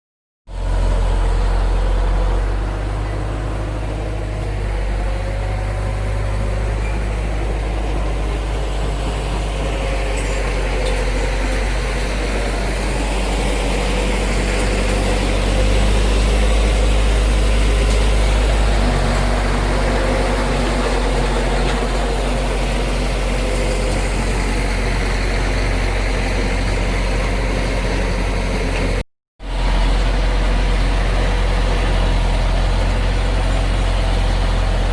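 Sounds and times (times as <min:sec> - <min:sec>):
bulldozer diesel engine rumbling: 0:00.5 - 0:34.9.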